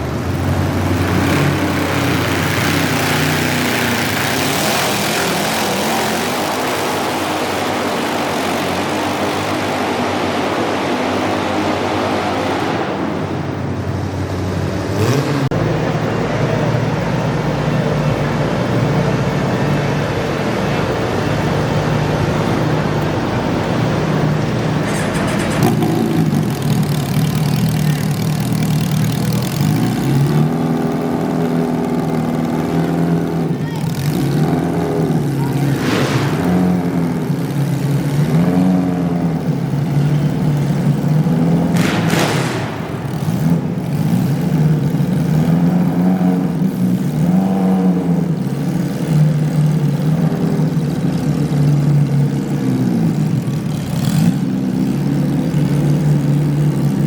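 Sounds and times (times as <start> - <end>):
tractor engine running hard: 0.0 - 57.0.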